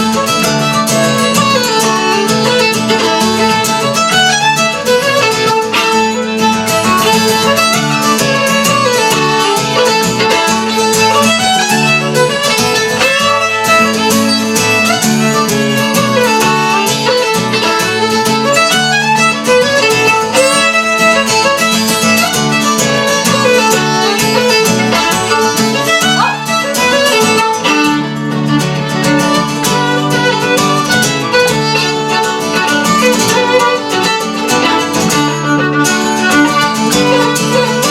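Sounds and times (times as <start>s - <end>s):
fiddle melody: 0.0s - 37.9s
rhythmic guitar accompaniment: 0.0s - 37.9s.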